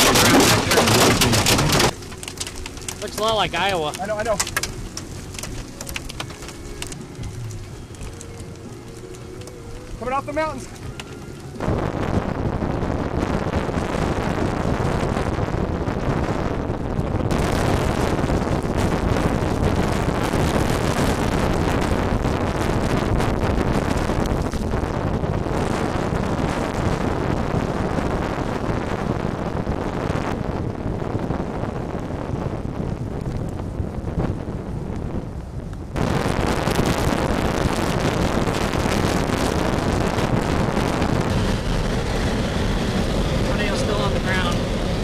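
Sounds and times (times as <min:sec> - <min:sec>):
storm wind buffeting microphone: 0:00.0 - 0:45.0.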